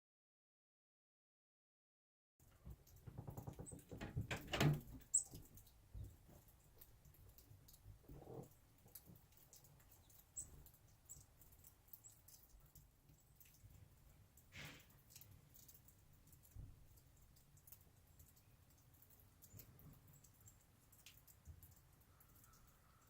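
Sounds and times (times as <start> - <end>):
small birds chipping: 2.5 - 23.0.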